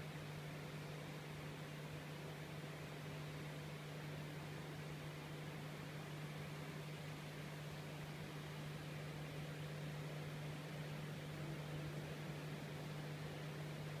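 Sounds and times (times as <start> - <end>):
aquarium filter humming: 0.0 - 14.0.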